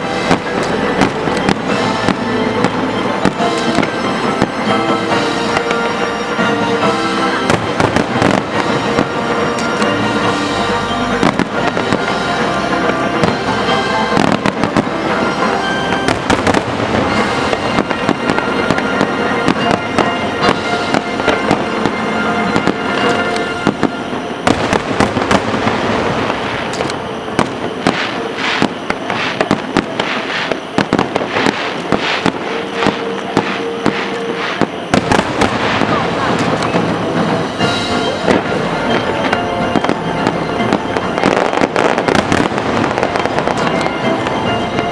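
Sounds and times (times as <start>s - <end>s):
firework shells bursting and crackling: 0.0s - 44.9s.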